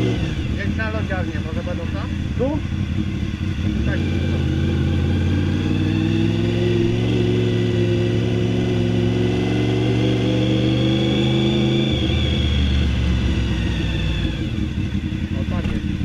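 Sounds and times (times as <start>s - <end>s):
motorcycle engine without muffler: 0.0s - 16.0s.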